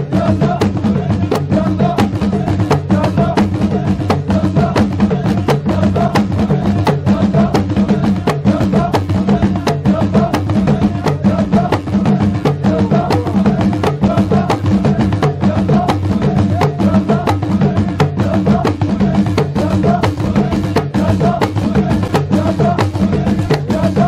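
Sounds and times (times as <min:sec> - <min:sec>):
fast percussive drumming: 0:00.0 - 0:24.0.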